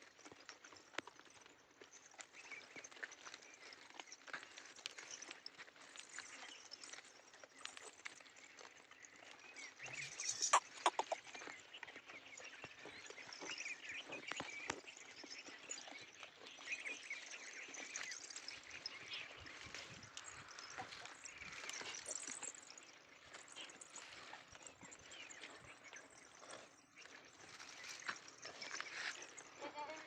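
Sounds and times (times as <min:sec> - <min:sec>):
hooves knocking on ground: 0:00.2 - 0:30.0
small chirps: 0:00.2 - 0:30.0.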